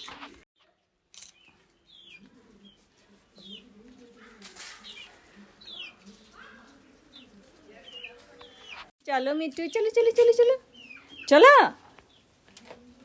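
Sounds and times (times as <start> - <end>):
bird chirping: 0.0 - 12.3.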